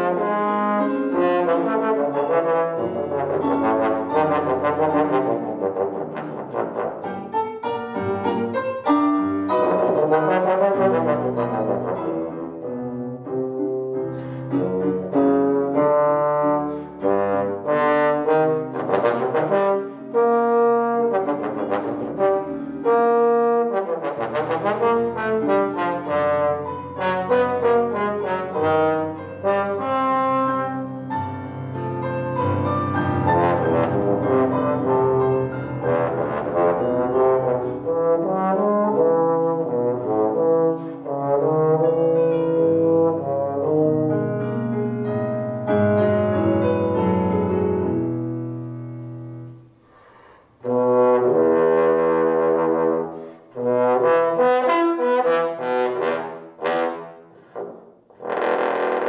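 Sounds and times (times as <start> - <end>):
solo trombone: 0.0 - 59.0.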